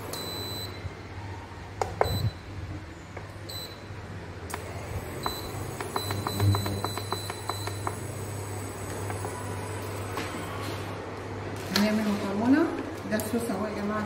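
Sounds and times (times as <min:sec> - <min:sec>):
induction hob humming: 0:00.0 - 0:11.6.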